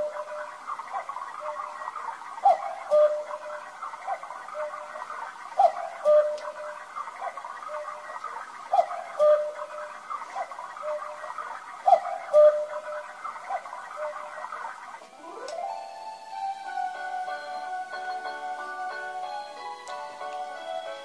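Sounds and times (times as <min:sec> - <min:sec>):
cuckoo clock calling: 0:00.0 - 0:21.0.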